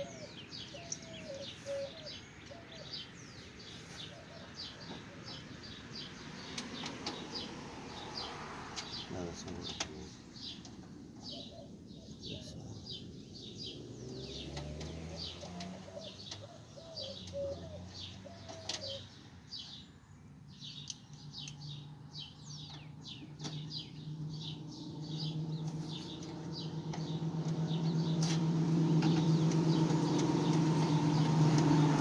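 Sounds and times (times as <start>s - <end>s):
vehicle engine: 0.0s - 19.8s, 20.8s - 32.0s
birds chirping: 0.0s - 32.0s.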